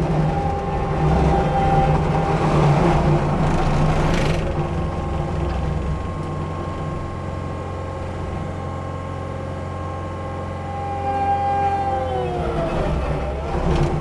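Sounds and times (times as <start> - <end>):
diesel engine and hydraulics running: 0.0 - 14.0.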